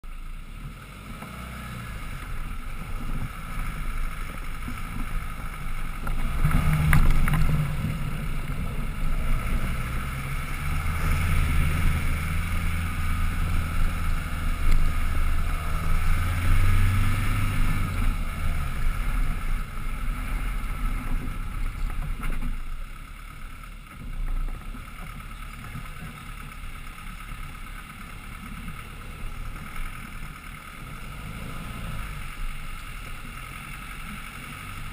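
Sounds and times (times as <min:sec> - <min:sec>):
engine pulling under load: 0:00.1 - 0:34.9.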